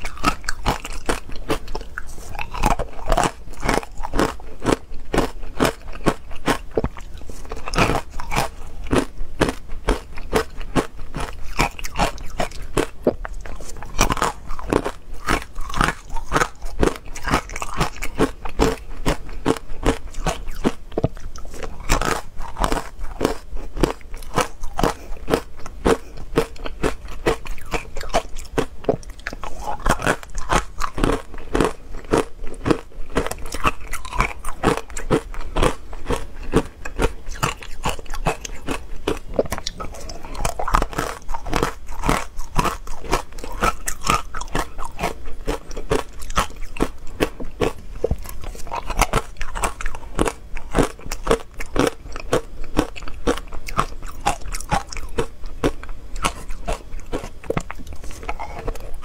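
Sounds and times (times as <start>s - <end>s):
ice cubes crunching being chewed: 0.0s - 59.0s.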